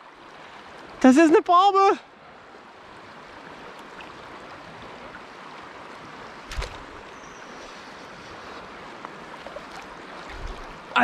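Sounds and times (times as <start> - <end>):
river water rushing over riffle: 0.0 - 11.0.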